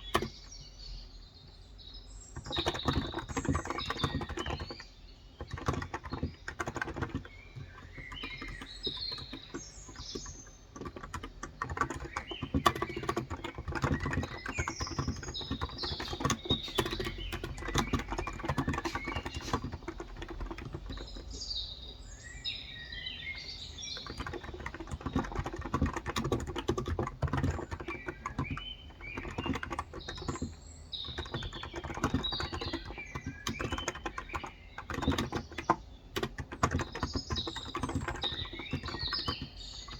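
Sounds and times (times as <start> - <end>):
soft keyboard typing: 0.0 - 0.7, 2.3 - 22.1, 23.4 - 39.9
birds chirping: 0.0 - 39.9.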